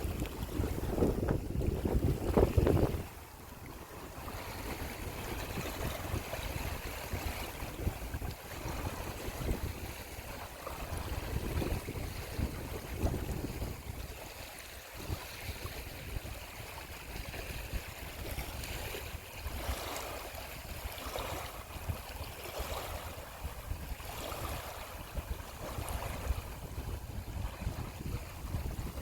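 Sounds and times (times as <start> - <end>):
water splashing and lapping: 0.0 - 29.0
wind rumble on microphone: 0.0 - 29.0.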